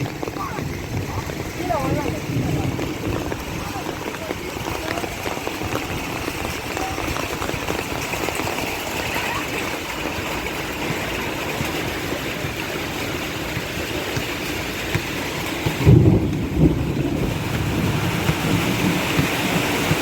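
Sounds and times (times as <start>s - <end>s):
thunder rumble: 0.0s - 12.1s, 15.4s - 20.0s
steady rain falling: 0.0s - 20.0s.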